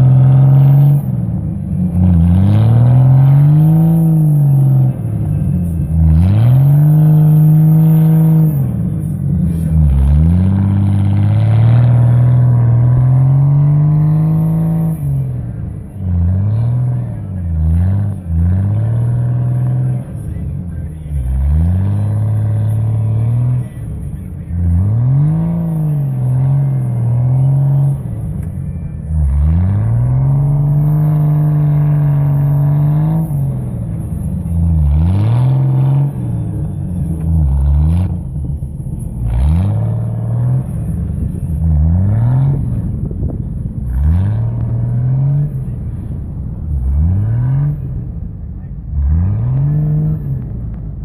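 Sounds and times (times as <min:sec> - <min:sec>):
vehicle engine revving: 0:00.0 - 0:51.0.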